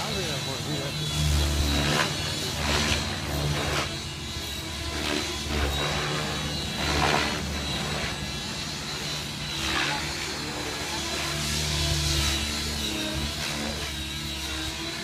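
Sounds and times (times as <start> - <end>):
rc helicopter motor and rotor whine: 0.0 - 15.0
rotor blades whooshing: 0.0 - 15.0.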